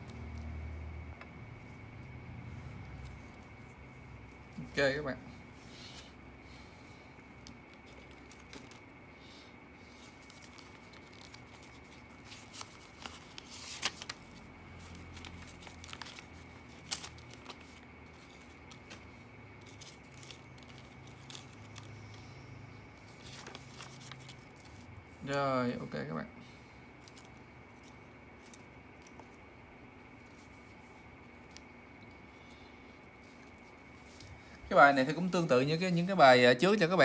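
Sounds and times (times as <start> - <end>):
paper bills rustling: 6.9 - 37.0.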